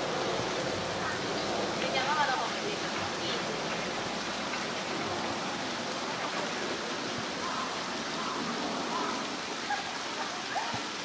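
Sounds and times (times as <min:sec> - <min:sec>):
faint voices: 0:00.0 - 0:11.0
water rushing: 0:00.0 - 0:11.0.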